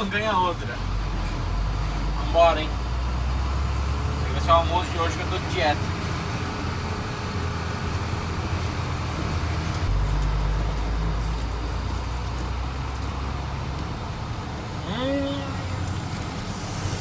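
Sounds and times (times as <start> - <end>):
diesel truck engine drone: 0.0 - 17.0.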